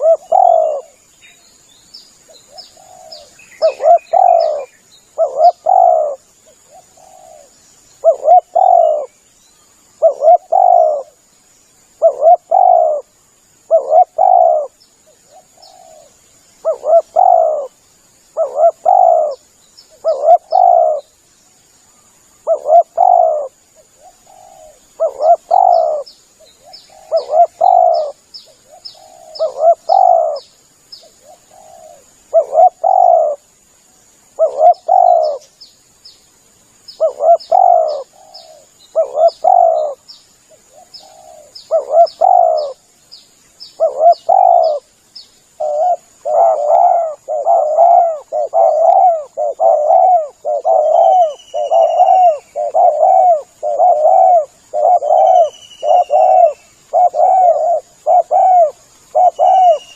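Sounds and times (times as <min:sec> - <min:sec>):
dove cooing: 0:00.0 - 0:01.0, 0:02.5 - 0:09.1, 0:10.0 - 0:11.2, 0:12.0 - 0:17.8, 0:18.4 - 0:21.1, 0:22.4 - 0:30.4, 0:31.0 - 0:33.4, 0:34.3 - 0:35.5, 0:37.0 - 0:42.8, 0:43.8 - 0:44.9, 0:45.6 - 0:59.9
small birds chirping: 0:00.0 - 0:59.9.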